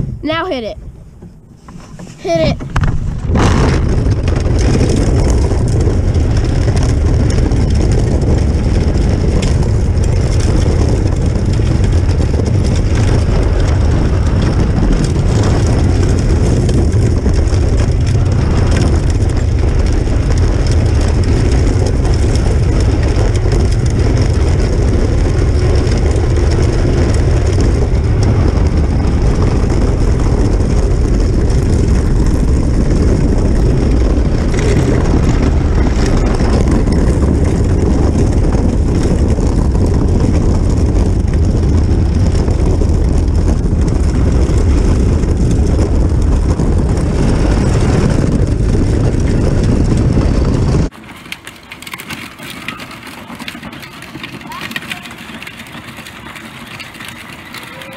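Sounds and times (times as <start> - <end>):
toy car rolling over gravel: 1.7 - 57.9.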